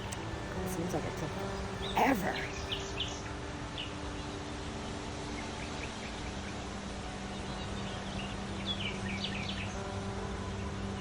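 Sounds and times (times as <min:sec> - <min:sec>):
songbirds chirping: 0:00.0 - 0:10.0.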